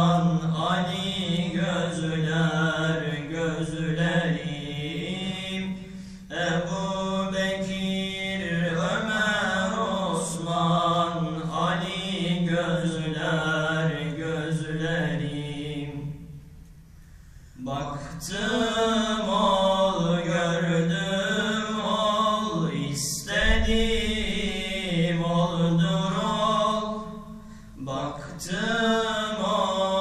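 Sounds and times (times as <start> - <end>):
men singing into microphone: 0.0 - 16.2, 17.6 - 30.0.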